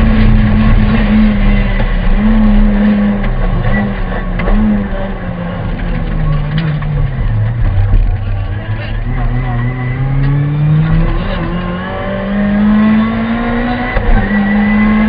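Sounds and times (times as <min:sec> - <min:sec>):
car engine under hard driving: 0:00.0 - 0:15.0
road and wind noise: 0:00.0 - 0:15.0.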